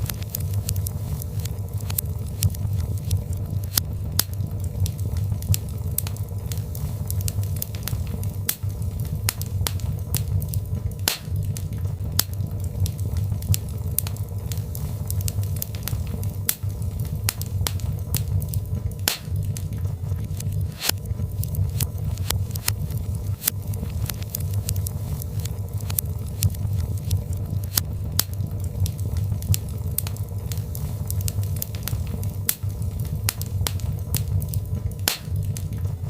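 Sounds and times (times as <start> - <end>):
fire crackling and popping: 0.0 - 36.0
flames rumbling: 0.0 - 36.0.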